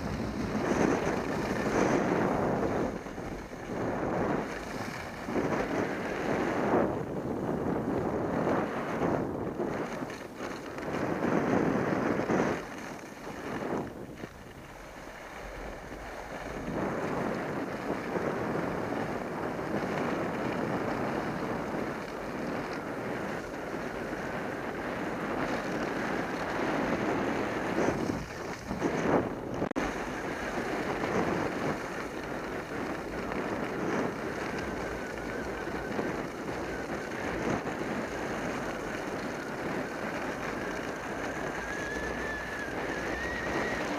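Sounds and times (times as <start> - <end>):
skis scraping on snow: 0.0 - 43.9
wind rushing over microphone: 0.0 - 43.9.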